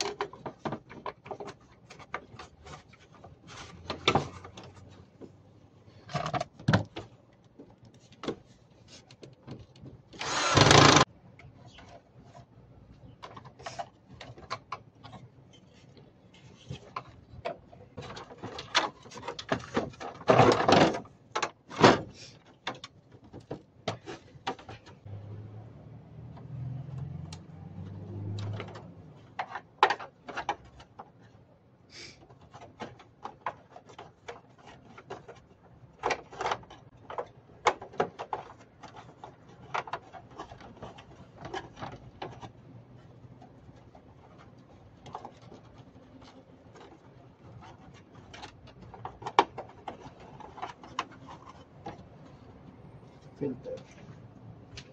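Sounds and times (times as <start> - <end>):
plastic parts clicking and rattling: 0.0 - 25.2, 28.3 - 31.5, 32.2 - 54.9.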